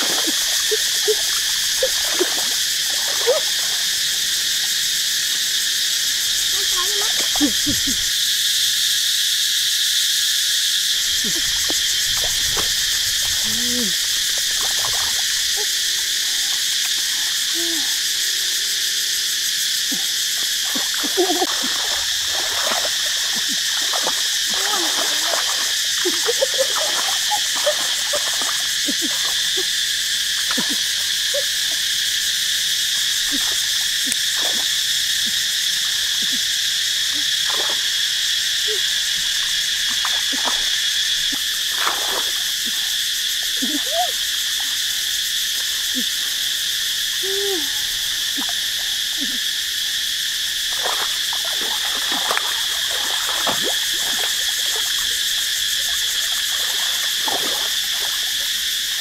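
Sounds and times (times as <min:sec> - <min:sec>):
frogs calling: 0:00.0 - 0:59.0
insect chorus: 0:00.0 - 0:59.0.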